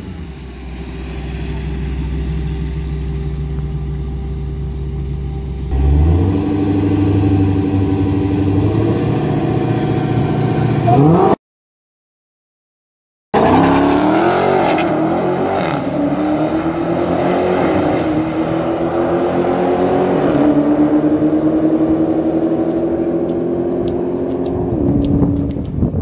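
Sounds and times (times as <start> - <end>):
car engine accelerating hard: 0.0 - 11.4, 13.4 - 25.8.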